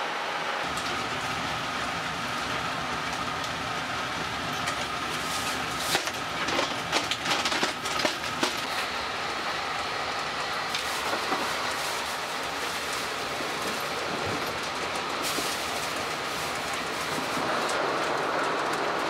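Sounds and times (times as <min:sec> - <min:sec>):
train rumble and hiss: 0:00.0 - 0:19.0.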